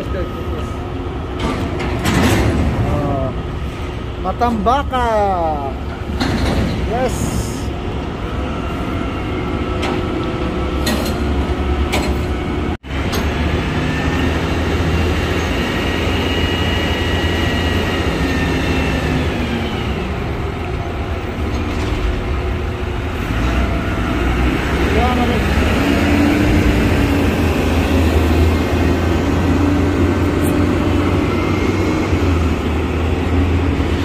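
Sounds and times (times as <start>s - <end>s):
machinery drone: 0.0s - 34.0s.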